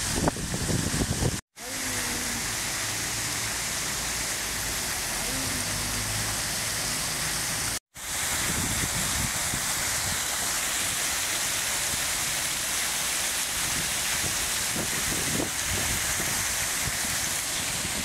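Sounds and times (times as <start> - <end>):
fountain water splashing: 0.0 - 18.0.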